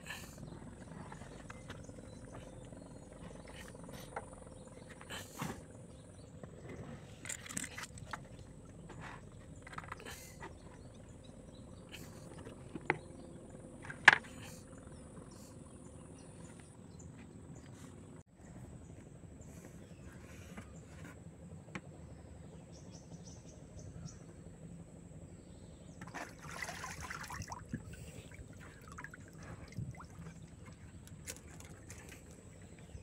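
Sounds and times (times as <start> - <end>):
faint high-pitched hum: 0.0 - 33.0.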